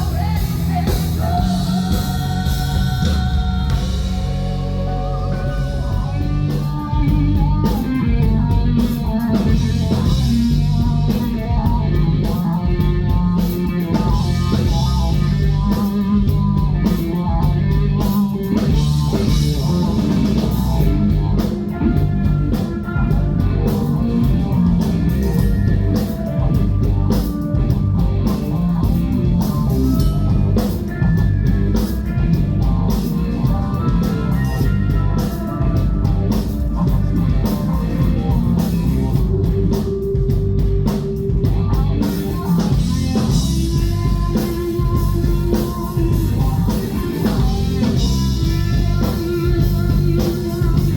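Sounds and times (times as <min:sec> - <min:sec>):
bass guitar: 0:00.0 - 0:50.9
drum kit: 0:00.0 - 0:50.9
electric guitar: 0:00.0 - 0:50.9.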